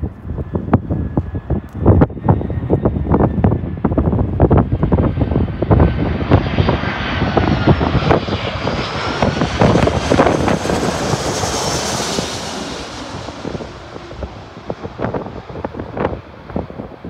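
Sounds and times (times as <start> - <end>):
high jet engine whine: 0.0 - 17.0
jet airliner passing overhead: 0.0 - 17.0.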